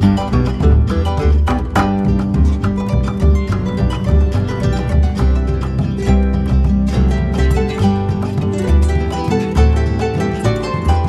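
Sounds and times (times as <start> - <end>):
deep bass: 0.0 - 11.0
quick plucked notes: 0.0 - 11.0.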